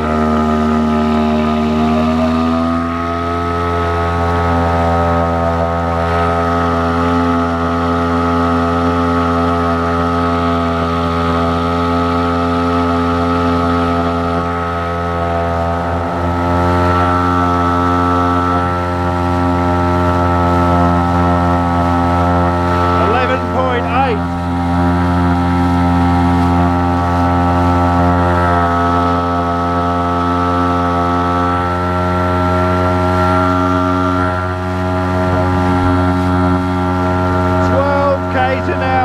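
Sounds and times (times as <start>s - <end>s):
outboard motor drone: 0.0s - 39.0s
wake water wash: 0.0s - 39.0s.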